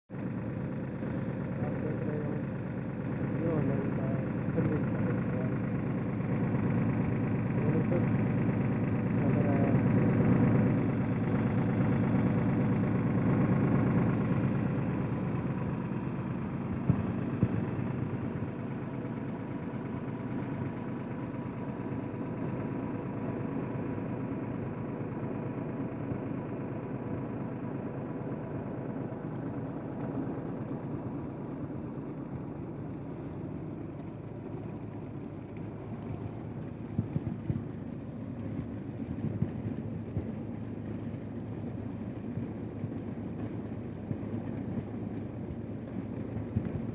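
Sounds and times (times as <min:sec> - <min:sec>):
tractor diesel engine running: 0:00.1 - 0:46.9.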